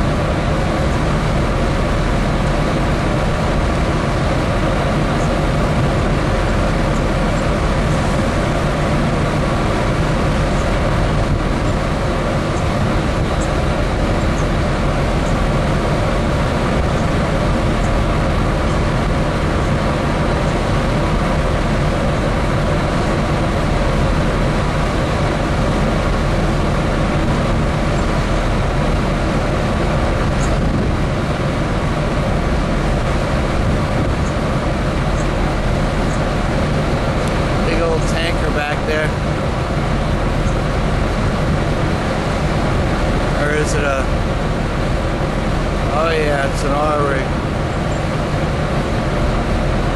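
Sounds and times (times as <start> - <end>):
propeller wake rushing: 0.0 - 49.9
ship engine drone: 0.0 - 49.9.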